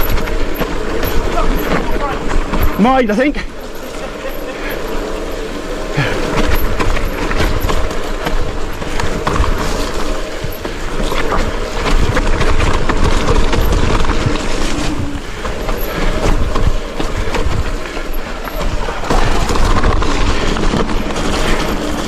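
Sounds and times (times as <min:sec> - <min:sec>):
bike rattling and knocking: 0:00.0 - 0:22.0
bike tyres rumbling over ground: 0:00.0 - 0:22.0.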